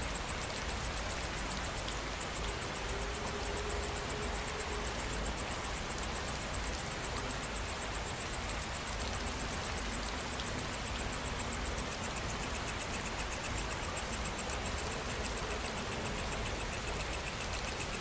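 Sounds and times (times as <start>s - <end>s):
insects chirping: 0.0s - 18.0s
low insect trill: 0.0s - 18.0s
steady rain hiss: 0.0s - 18.0s.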